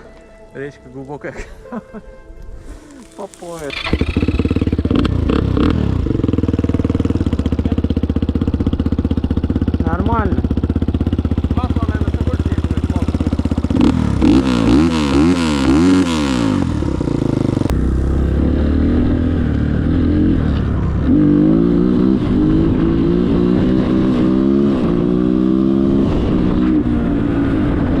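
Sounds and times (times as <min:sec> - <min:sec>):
motorcycle engine revving: 0:03.3 - 0:28.0.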